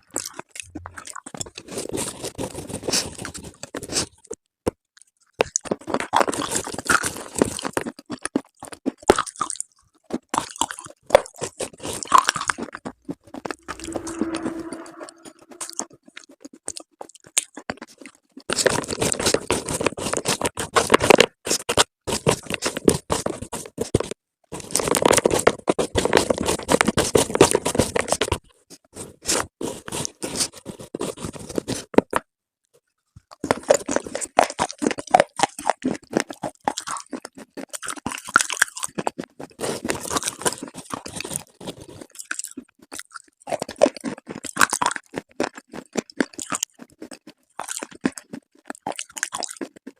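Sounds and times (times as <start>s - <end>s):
crunchy chewing of slate: 0.0s - 4.4s, 5.0s - 13.7s, 15.7s - 32.2s, 33.1s - 49.9s.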